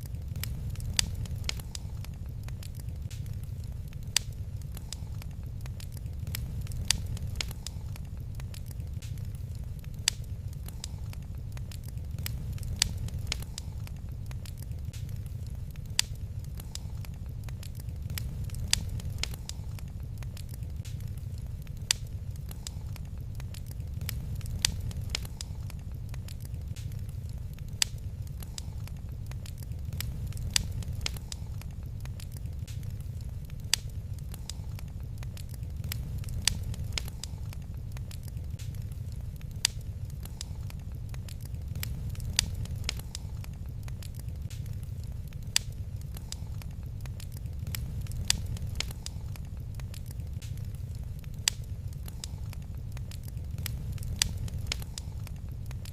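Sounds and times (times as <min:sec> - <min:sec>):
low fire rumble: 0:00.0 - 0:55.9
wood fire crackling: 0:00.0 - 0:55.9.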